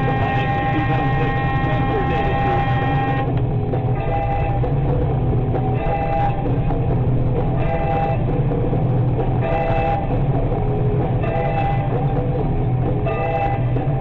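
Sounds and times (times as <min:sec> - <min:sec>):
engine and road noise: 0:00.0 - 0:14.0
music on car radio: 0:00.0 - 0:14.0.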